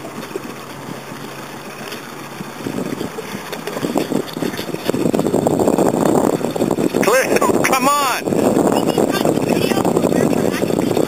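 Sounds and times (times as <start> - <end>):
wind and water rushing hiss: 0.0 - 11.0.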